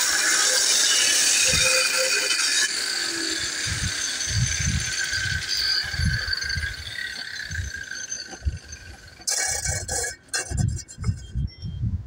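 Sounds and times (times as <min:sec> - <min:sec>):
angle grinder whine: 0:00.0 - 0:11.4
harsh scrape: 0:00.0 - 0:11.4.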